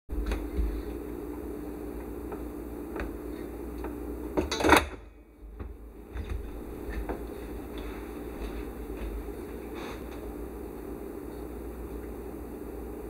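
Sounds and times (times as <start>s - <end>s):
low hum: 0.1s - 13.0s.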